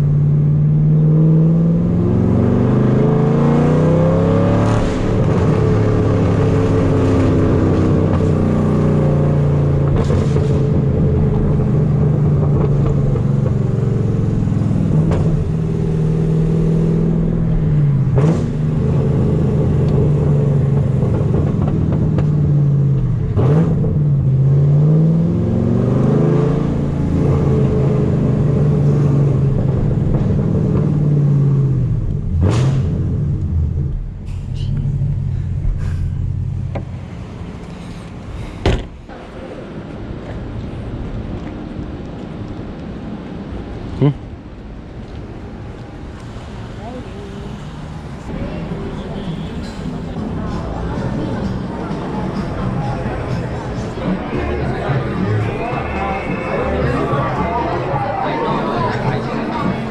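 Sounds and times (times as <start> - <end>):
car engine accelerating: 0.0 - 44.4, 45.0 - 59.9.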